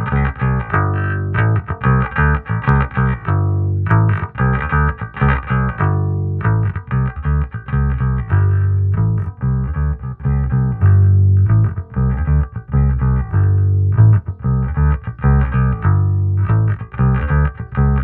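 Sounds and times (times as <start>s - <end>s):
electric bass guitar line: 0.0s - 18.0s.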